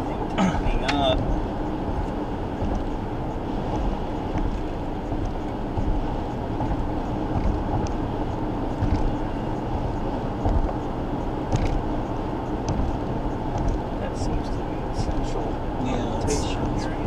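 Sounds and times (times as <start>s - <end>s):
tyre and engine rumble in car: 0.0s - 17.0s.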